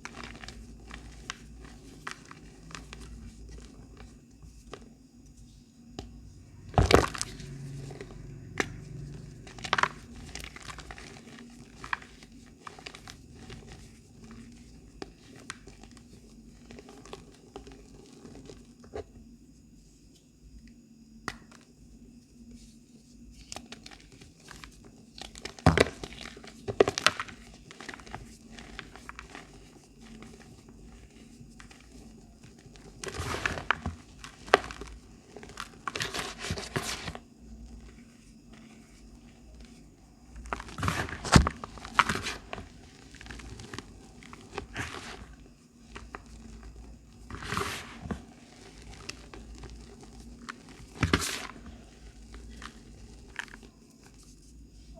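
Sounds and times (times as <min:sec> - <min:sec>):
powder crumbling by hand: 0:00.0 - 0:04.1, 0:08.4 - 0:18.6, 0:23.6 - 0:54.2.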